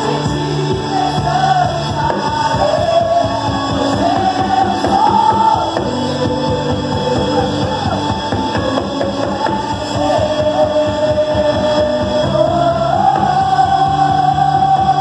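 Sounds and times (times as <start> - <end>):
keyboard: 0.0 - 15.0
worship band music: 0.0 - 15.0.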